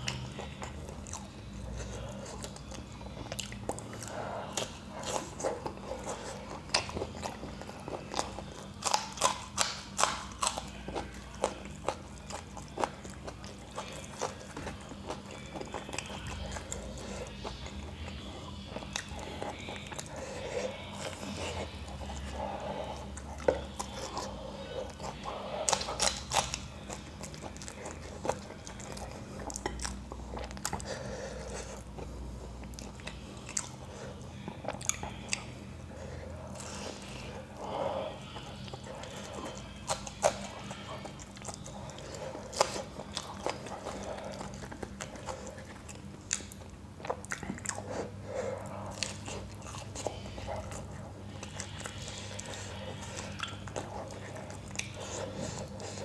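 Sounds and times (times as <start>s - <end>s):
man chewing and crunching: 0.0s - 56.0s.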